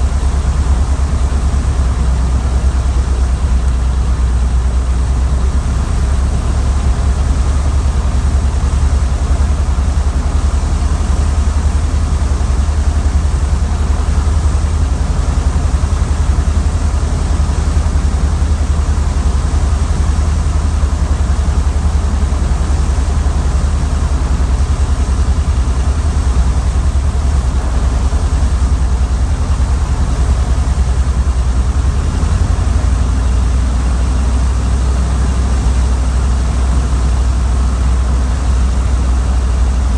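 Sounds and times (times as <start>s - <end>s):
light airplane engine droning: 0.0s - 39.9s.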